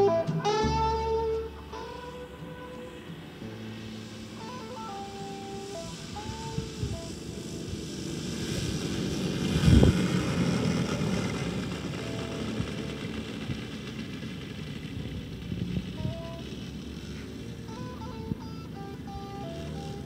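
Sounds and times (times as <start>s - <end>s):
model plane propellers: 0.0s - 20.0s.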